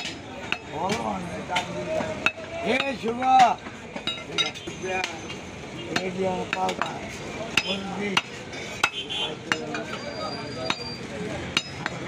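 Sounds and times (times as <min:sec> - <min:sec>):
cleavers chopping meat on wood: 0:00.0 - 0:10.0, 0:10.7 - 0:12.0.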